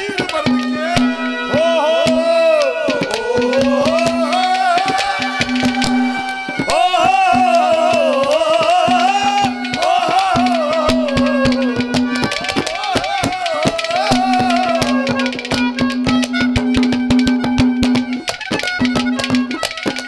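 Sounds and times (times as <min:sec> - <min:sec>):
fast hand drum strokes: 0:00.0 - 0:20.0.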